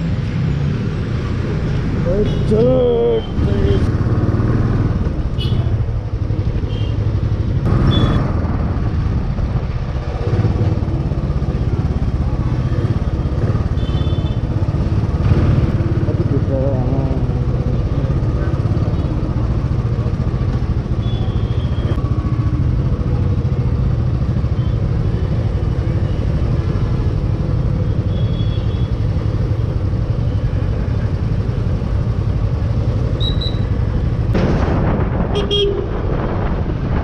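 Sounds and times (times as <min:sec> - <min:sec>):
road rumble: 0:00.0 - 0:37.0
wind: 0:00.0 - 0:37.0.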